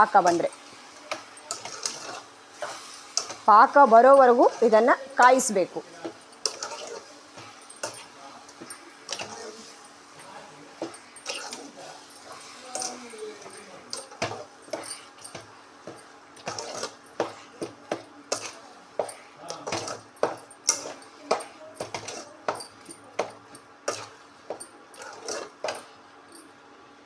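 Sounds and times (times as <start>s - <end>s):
spoon scraping a pan: 0.0s - 26.0s
jam boiling: 0.0s - 26.2s.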